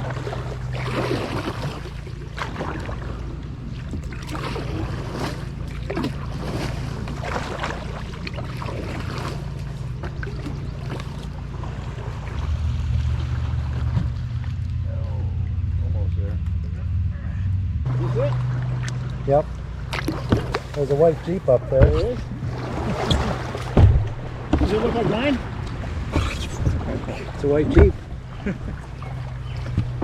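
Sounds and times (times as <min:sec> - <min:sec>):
paddle strokes splashing water: 0:00.0 - 0:14.8, 0:18.1 - 0:30.0
steady low rumble: 0:00.0 - 0:30.0.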